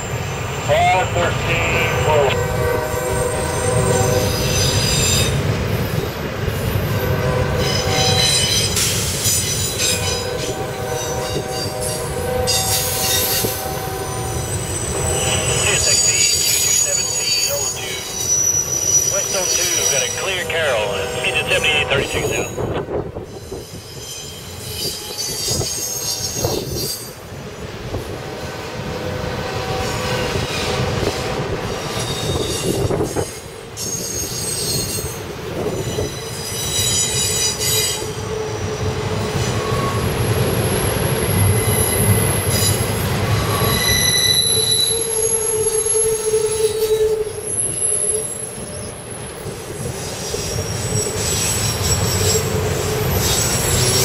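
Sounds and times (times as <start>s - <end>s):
low rumble of train: 0.0s - 54.0s
train wheels squealing on rails: 0.0s - 54.0s.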